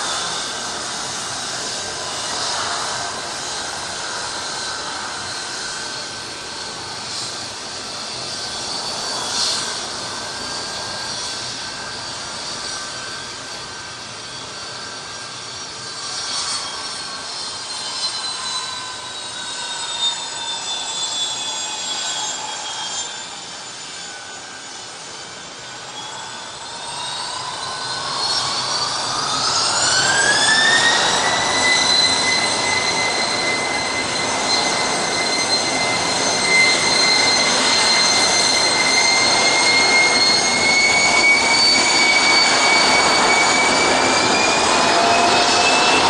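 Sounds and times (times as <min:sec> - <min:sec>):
jet engine roar: 0:00.0 - 0:46.0
jet engine turbine whine: 0:00.0 - 0:46.0.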